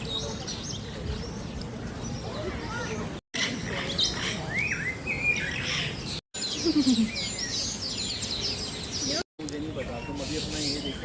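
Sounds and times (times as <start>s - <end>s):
many birds chirping and whistling: 0.0s - 11.0s.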